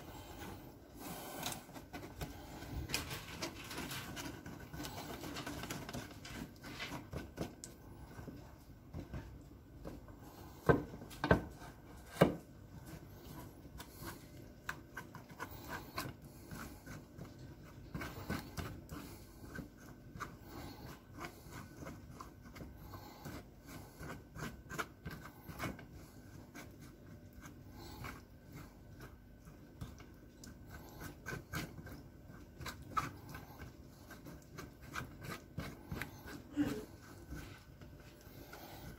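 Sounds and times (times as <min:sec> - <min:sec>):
wooden spoon scraping metal sieve: 0:00.0 - 0:38.9.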